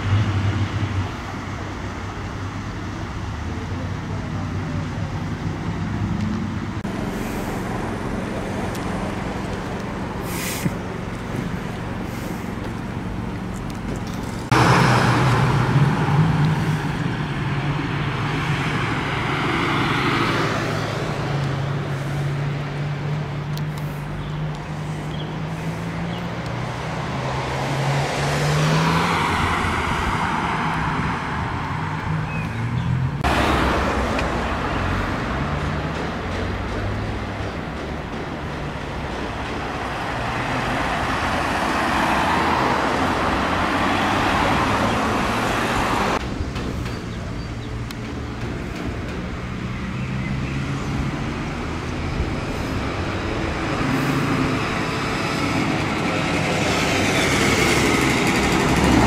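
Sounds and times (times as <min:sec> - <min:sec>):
cars revving or driving by: 0:00.0 - 0:59.0.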